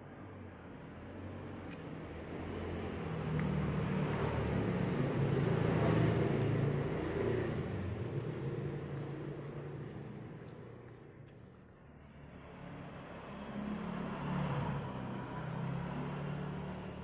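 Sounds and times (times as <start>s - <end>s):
vehicle passing by: 1.0s - 10.0s, 12.0s - 17.0s.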